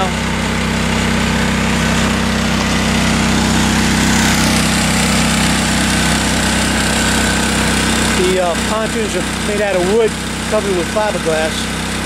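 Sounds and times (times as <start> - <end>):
small gasoline engine droning: 0.0 - 12.0.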